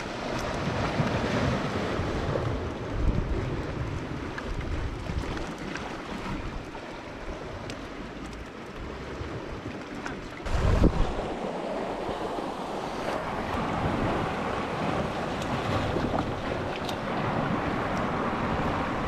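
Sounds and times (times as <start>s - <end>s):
wind buffeting microphone: 0.0s - 7.8s, 10.4s - 19.0s
sea washing against rocks: 0.0s - 19.0s.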